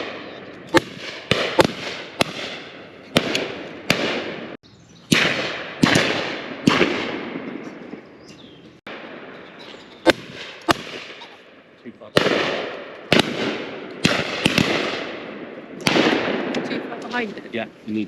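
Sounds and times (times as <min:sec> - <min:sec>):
shotgun shots with rolling echo: 0:00.0 - 0:08.2, 0:08.8 - 0:17.0.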